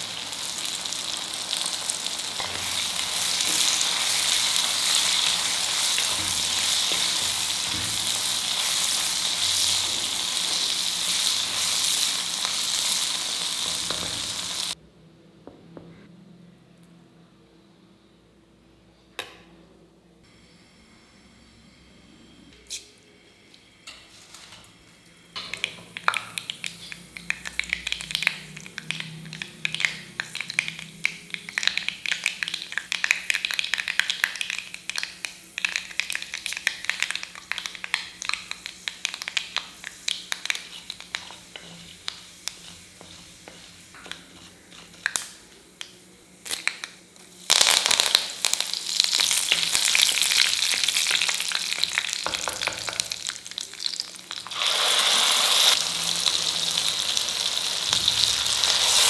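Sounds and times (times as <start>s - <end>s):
loud sizzle in hot oil: 0.0s - 14.8s, 25.4s - 59.0s
seeds popping in hot oil: 0.0s - 14.8s, 25.3s - 59.0s.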